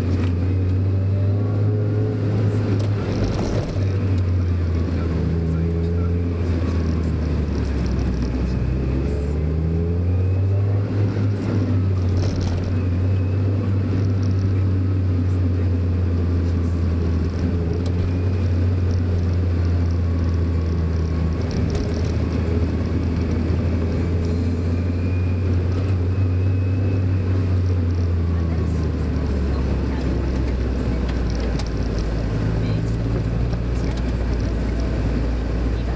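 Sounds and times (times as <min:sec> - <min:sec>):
car engine and tyres droning: 0:00.0 - 0:35.9.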